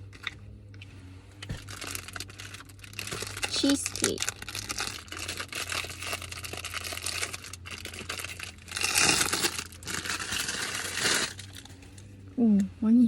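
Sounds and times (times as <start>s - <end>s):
plastic wrapping crinkling: 1.4s - 11.9s.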